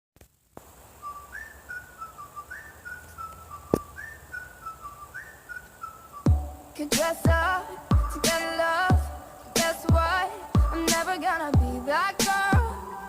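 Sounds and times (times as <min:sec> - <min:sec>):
whistled pop melody: 0:01.0 - 0:13.0.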